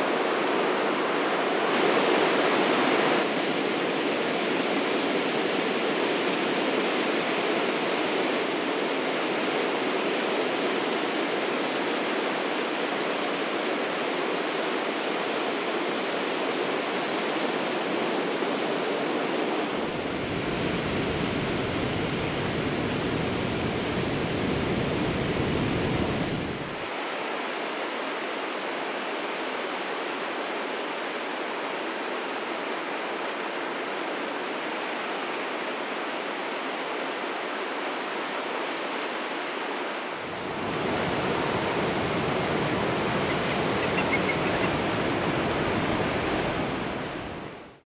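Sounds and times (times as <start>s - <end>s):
ocean surf breaking on beach: 0.0s - 47.8s.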